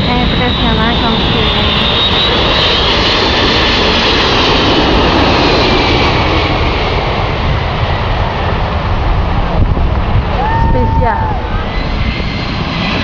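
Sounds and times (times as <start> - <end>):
jet airliner passing low: 0.0 - 13.0.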